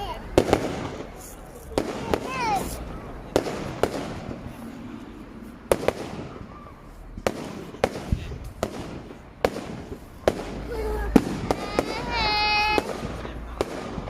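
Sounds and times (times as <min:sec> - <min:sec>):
fireworks bangs and cracks: 0:00.0 - 0:04.8, 0:05.5 - 0:14.0.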